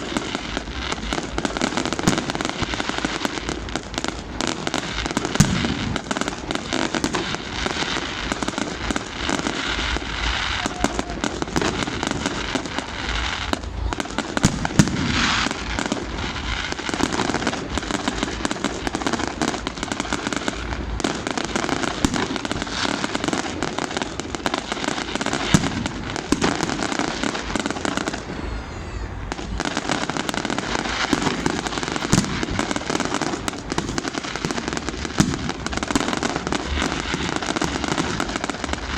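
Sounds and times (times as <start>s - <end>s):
fireworks crackling and popping: 0.0s - 38.9s
loud firework bursts: 0.0s - 38.9s.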